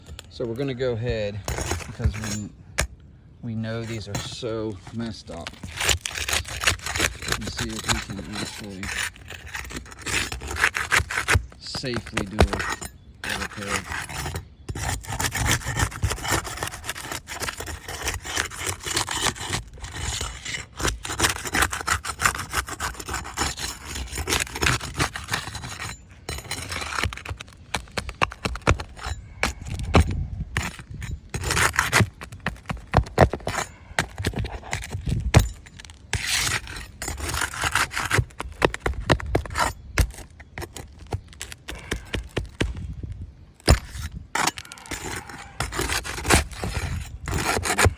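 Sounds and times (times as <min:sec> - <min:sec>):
shingles scraping and crackling: 0:00.0 - 0:02.9, 0:03.5 - 0:47.9.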